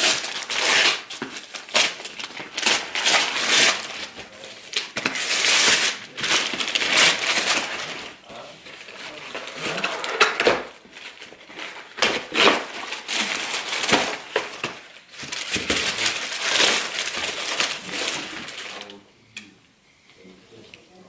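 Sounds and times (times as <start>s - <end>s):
tissue paper rustling: 0.0s - 10.0s, 10.7s - 18.9s.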